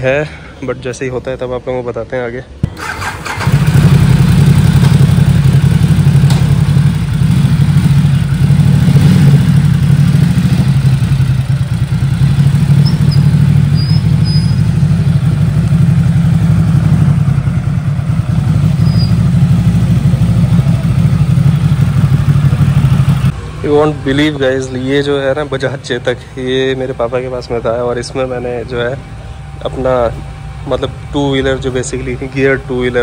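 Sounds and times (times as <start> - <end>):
motorcycle engine running: 2.6 - 33.0.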